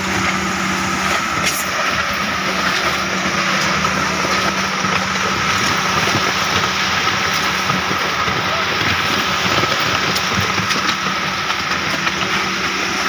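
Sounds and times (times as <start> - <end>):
concrete mixer motor humming: 0.0 - 13.0
paddles churning gravelly concrete: 0.0 - 13.0.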